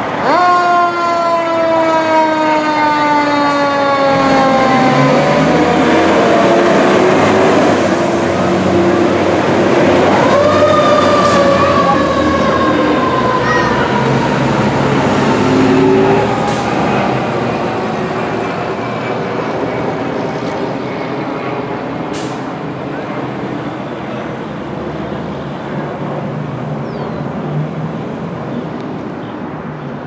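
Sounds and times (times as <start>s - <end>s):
fire engine diesel engine: 0.0s - 30.0s
street traffic: 0.0s - 30.0s.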